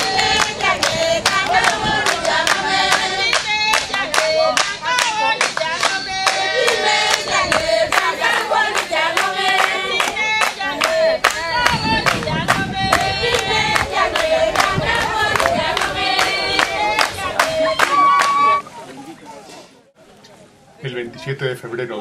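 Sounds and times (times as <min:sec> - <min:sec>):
handclaps: 0:00.0 - 0:18.5
women singing together: 0:00.0 - 0:18.6.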